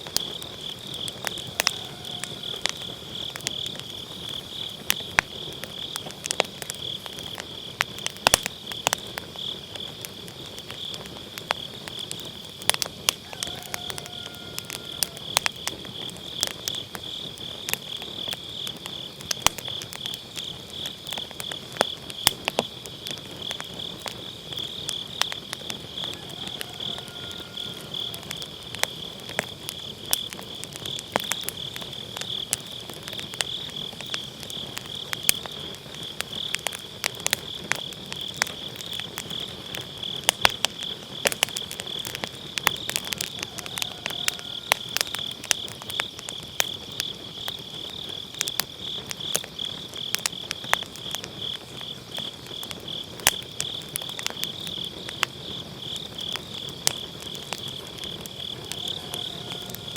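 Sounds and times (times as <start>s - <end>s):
insects chirping trill: 0.0s - 59.9s
wood fire crackling and popping: 0.0s - 59.9s.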